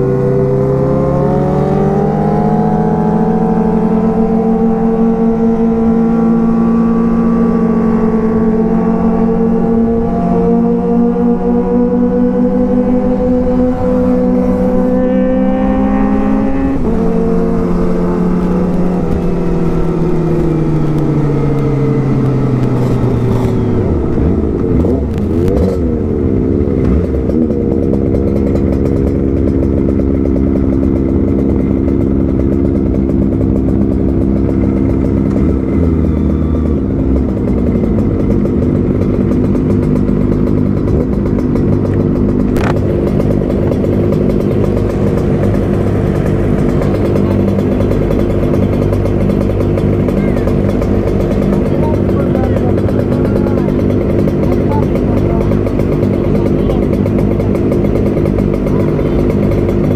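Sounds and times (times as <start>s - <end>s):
other motorcycles idling and revving: 0.0s - 59.9s
motorcycle engine idling: 2.5s - 59.9s.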